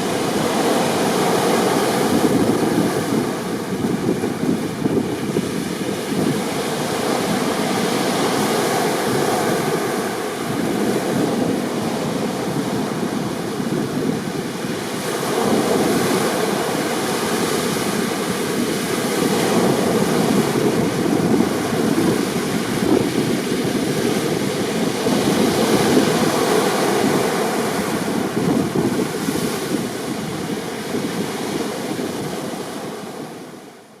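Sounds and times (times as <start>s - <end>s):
wind buffeting microphone: 0.0s - 33.7s
sea waves breaking: 0.0s - 33.8s.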